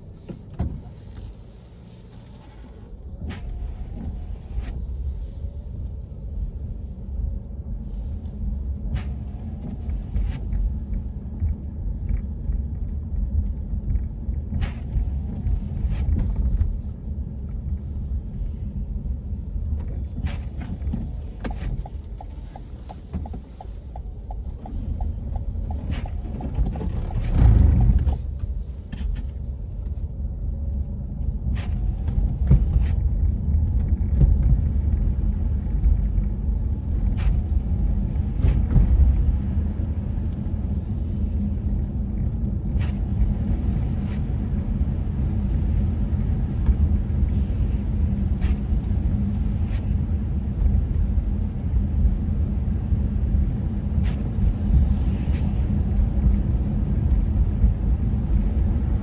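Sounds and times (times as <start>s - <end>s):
city street traffic rumble: 0.0s - 59.0s.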